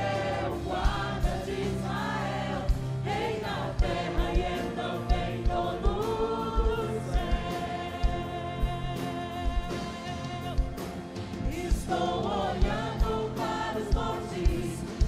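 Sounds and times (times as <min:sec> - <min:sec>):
band playing: 0:00.0 - 0:15.0
group of voices singing: 0:00.0 - 0:15.0.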